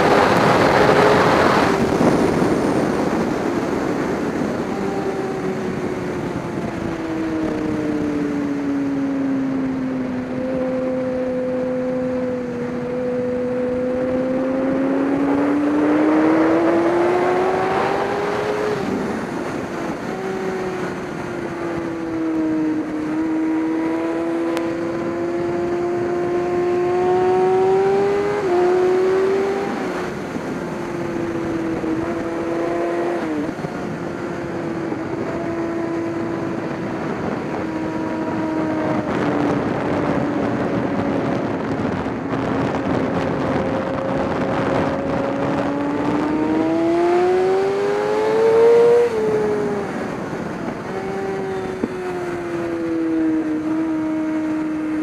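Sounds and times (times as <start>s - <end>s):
racing engine accelerating: 0.0s - 55.0s
steady rushing noise: 0.0s - 55.0s.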